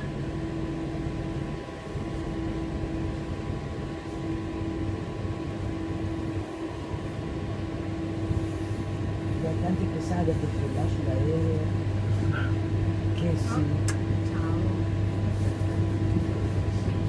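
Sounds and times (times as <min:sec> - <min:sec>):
constant hum: 0:00.0 - 0:17.0
train rumble: 0:00.0 - 0:17.0.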